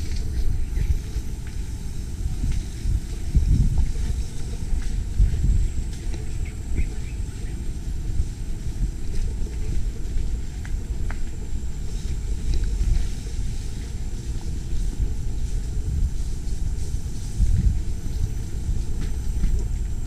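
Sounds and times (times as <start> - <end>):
bike tyres rumbling on dirt trail: 0.0 - 20.0
wind buffeting microphone: 0.0 - 20.0.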